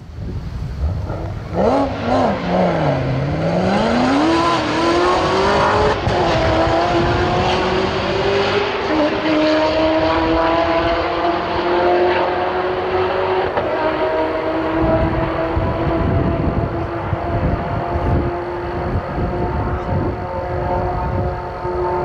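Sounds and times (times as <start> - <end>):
car engine revving and accelerating: 0.8 - 22.0.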